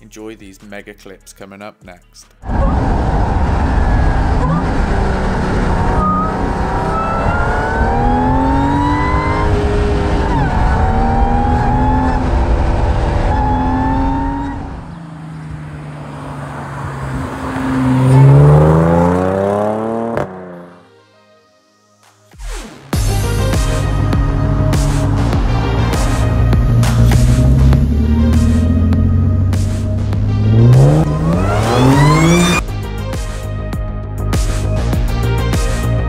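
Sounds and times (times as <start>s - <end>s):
car engine accelerating: 2.4s - 20.9s, 23.0s - 33.7s
road noise: 2.4s - 21.1s, 23.0s - 36.0s.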